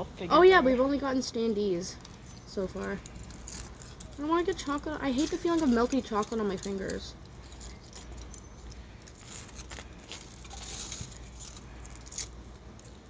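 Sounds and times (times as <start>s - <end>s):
foil wrapper crinkling: 2.0s - 13.0s.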